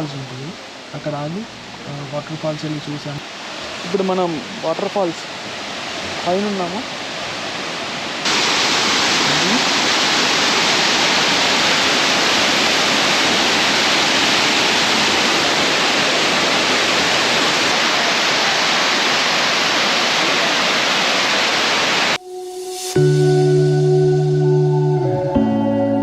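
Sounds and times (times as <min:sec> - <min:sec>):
waterfall roaring: 0:00.0 - 0:22.2.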